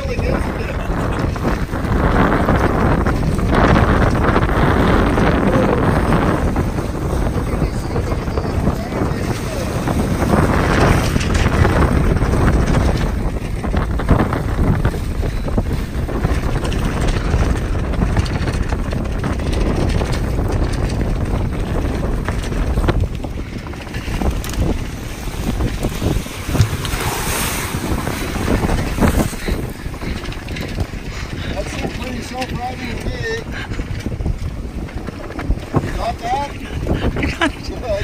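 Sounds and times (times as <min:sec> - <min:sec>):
water rushing along hull: 0:00.0 - 0:38.0
wind buffeting microphone: 0:00.0 - 0:38.0.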